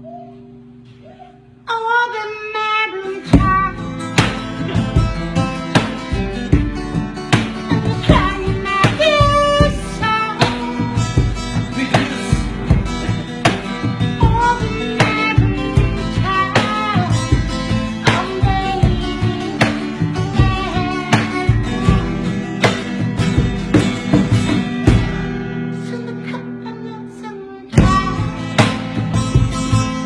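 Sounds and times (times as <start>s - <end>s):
plucked strings: 3.2s - 27.0s, 27.7s - 30.0s
steady drum beat: 3.4s - 25.4s, 27.8s - 30.0s.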